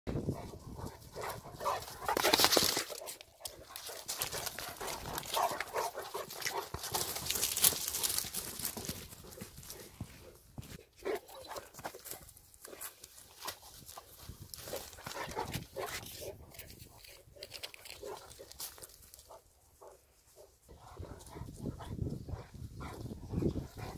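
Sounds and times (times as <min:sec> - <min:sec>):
scuffing and rustling: 0:00.7 - 0:20.5.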